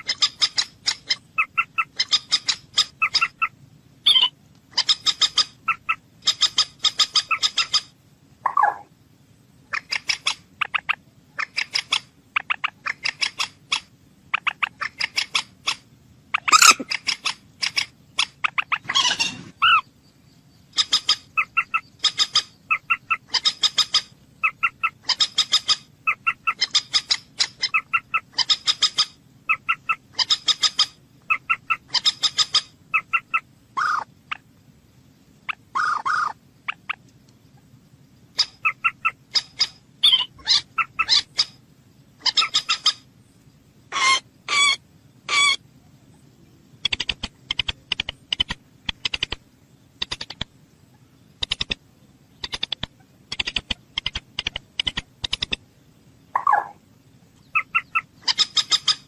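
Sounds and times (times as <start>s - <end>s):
longer lower bird calls: 0.0s - 34.6s, 35.3s - 59.0s.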